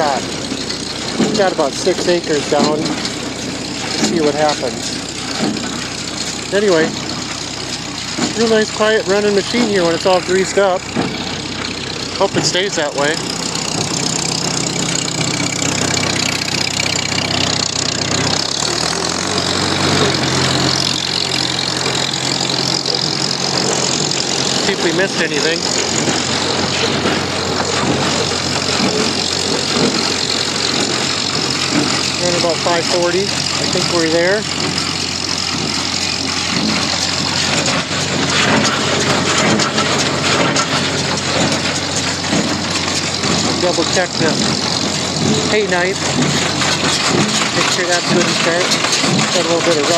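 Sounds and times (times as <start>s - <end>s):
baler running: 0.0s - 49.9s
fine rapid ticking: 0.0s - 49.9s
tractor engine running: 0.0s - 49.9s.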